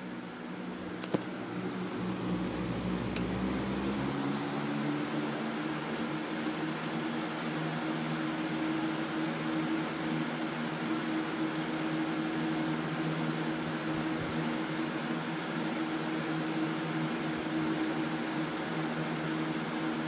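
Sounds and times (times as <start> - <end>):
box fan running: 0.0 - 20.0.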